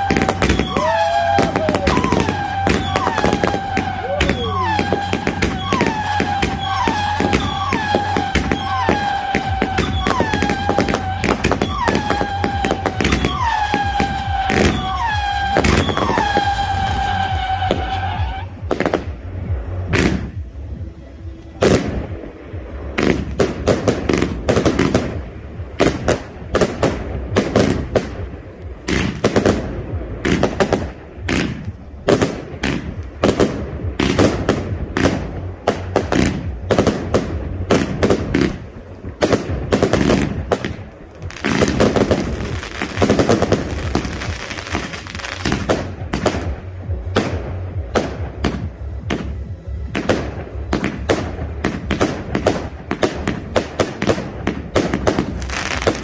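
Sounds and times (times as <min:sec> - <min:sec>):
fireworks bangs: 0:00.0 - 0:20.9, 0:21.5 - 0:56.0.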